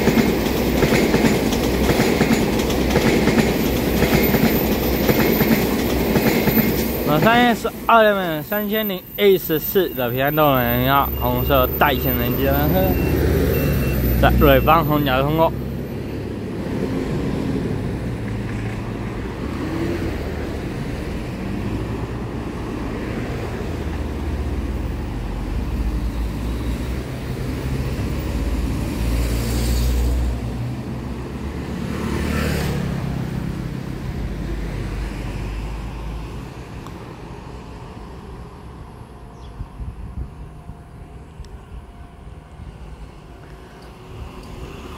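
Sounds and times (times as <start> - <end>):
distant vehicles rumbling: 0.0 - 44.9.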